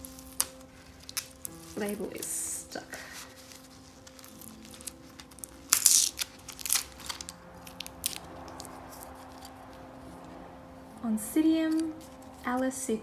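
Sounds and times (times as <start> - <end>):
tissue paper crinkling: 0.0 - 10.3, 11.7 - 12.6.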